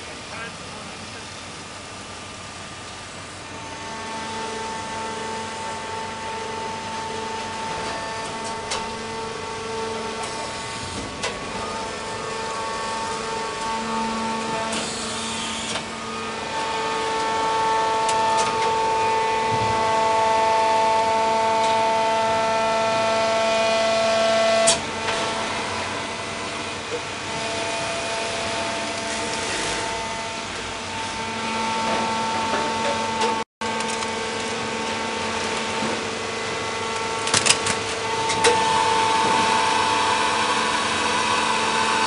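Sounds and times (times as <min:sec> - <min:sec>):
baler machinery whine: 0:00.0 - 0:42.0.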